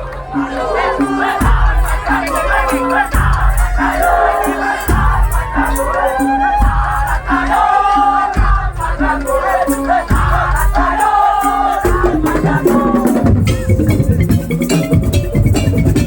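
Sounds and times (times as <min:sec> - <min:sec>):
deep drum beats: 0:00.0 - 0:16.0.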